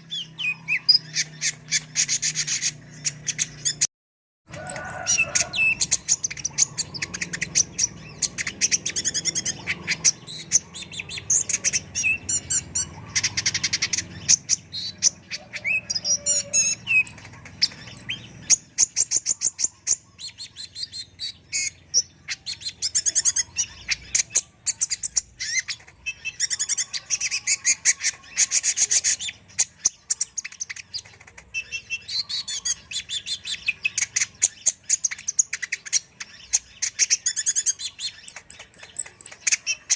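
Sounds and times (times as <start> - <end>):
sunbird twittering song: 0.0 - 3.9, 4.5 - 39.9.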